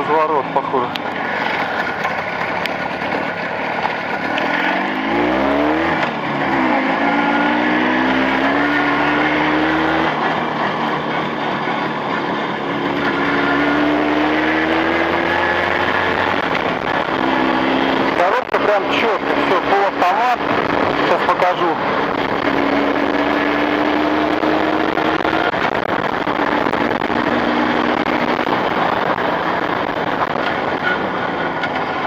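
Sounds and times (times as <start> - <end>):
motorcycle engine accelerating: 0.0 - 32.0
wind noise: 5.0 - 18.2, 19.2 - 32.0.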